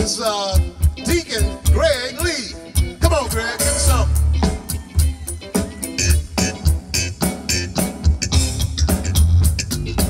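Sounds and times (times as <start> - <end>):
electric bass guitar solo: 0.0 - 10.0.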